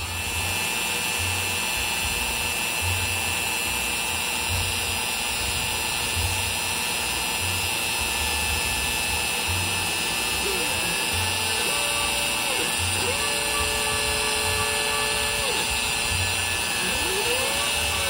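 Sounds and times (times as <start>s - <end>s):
router high whine: 0.0s - 18.0s
rush of bit cutting wood: 0.0s - 18.0s.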